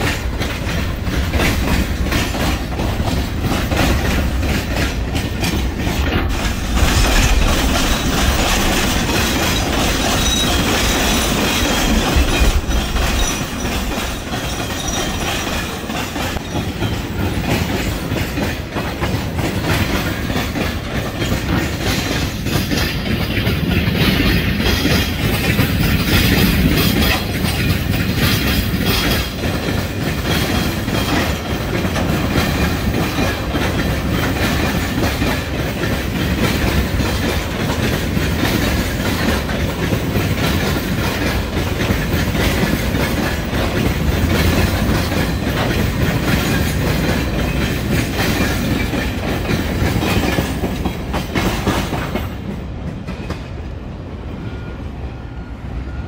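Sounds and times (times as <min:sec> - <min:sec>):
train wheels clattering over rail joints: 0:00.0 - 0:54.0.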